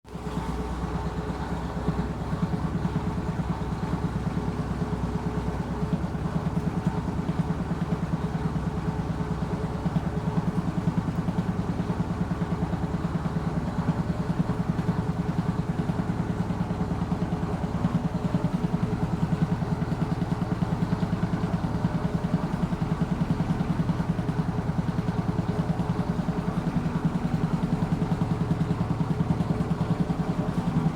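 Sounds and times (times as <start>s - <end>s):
washing machine spinning: 0.1s - 30.9s.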